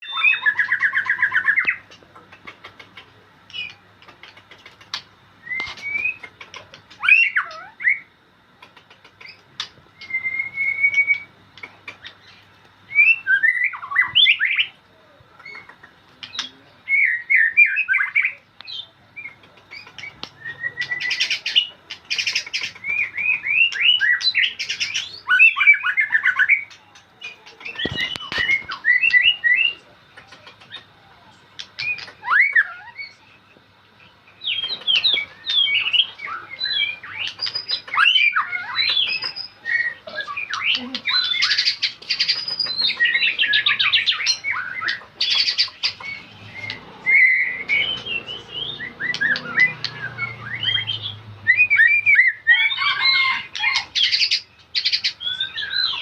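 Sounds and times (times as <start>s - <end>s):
bird singing whistles and trills: 0.0s - 1.8s, 5.4s - 6.3s, 7.0s - 8.1s, 10.0s - 11.4s, 12.0s - 14.8s, 16.3s - 29.8s, 31.7s - 33.5s, 34.4s - 56.0s.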